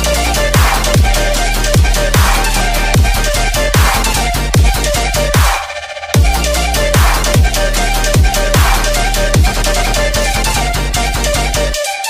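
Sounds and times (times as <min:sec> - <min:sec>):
electronic music with kick drums: 0:00.0 - 0:12.0.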